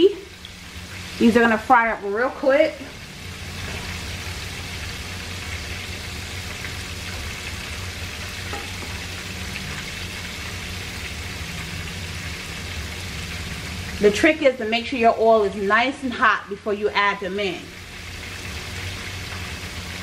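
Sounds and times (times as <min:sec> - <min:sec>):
low steady hum: 0:00.0 - 0:20.0
shrimp sizzling in hot oil: 0:00.0 - 0:20.0.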